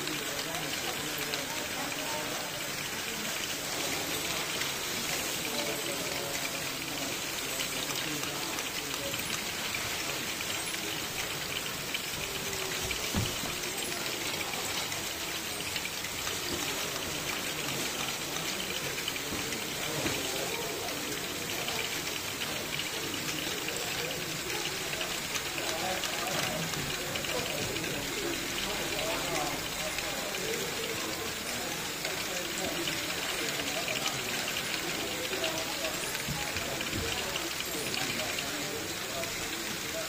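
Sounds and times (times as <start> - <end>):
people talking: 0.0 - 40.0.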